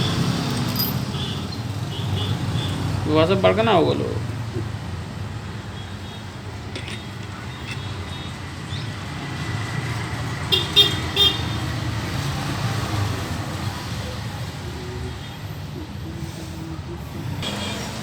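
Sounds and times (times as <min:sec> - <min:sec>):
road traffic rumbling: 0:00.0 - 0:18.0.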